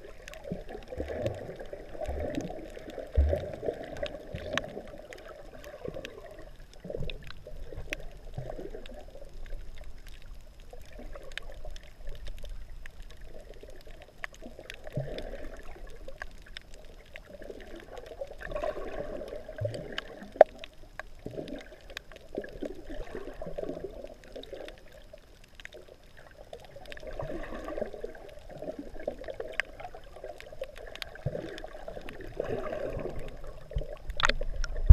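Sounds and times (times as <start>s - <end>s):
muffled underwater sloshing: 0.0s - 34.9s
small clicks and ticks: 0.0s - 34.9s.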